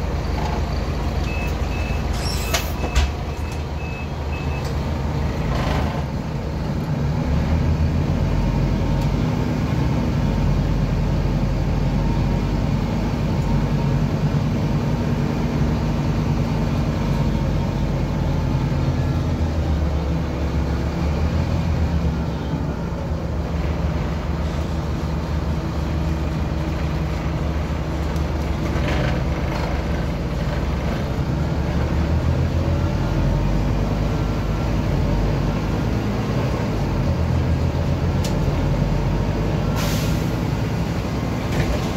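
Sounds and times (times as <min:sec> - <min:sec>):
bus diesel engine: 0:00.0 - 0:41.9.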